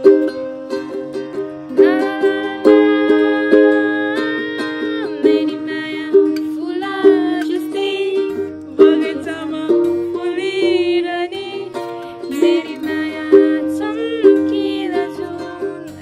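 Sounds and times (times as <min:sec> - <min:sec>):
girl singing: 0:00.0 - 0:16.0
ukulele strummed: 0:00.0 - 0:16.0.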